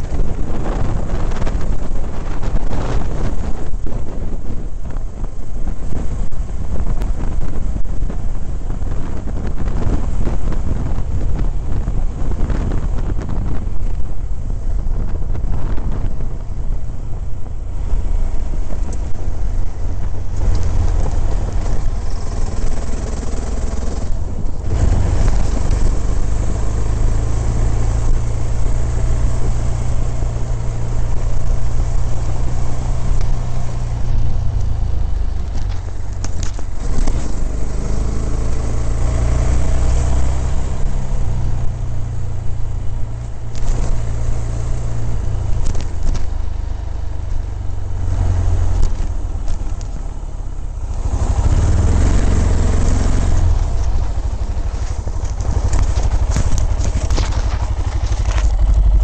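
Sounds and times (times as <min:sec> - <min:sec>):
motorcycle engine drone: 0:00.0 - 0:59.0
wind buffeting microphone: 0:00.0 - 0:59.0.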